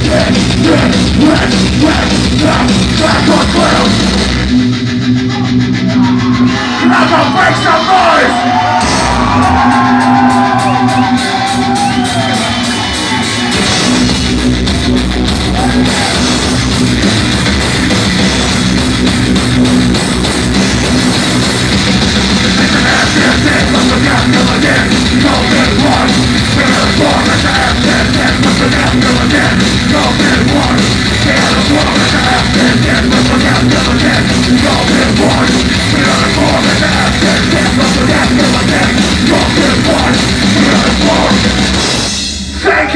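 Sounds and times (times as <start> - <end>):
loud live rock music: 0.0 - 42.9.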